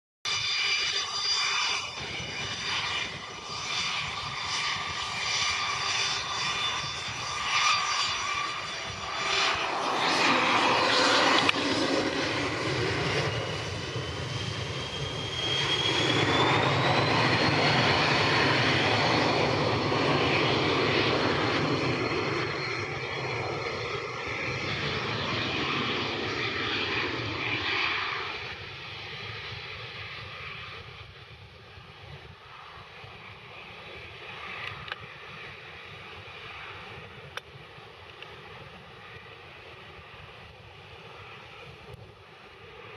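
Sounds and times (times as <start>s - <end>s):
jet engines spooling up: 0.3s - 42.9s.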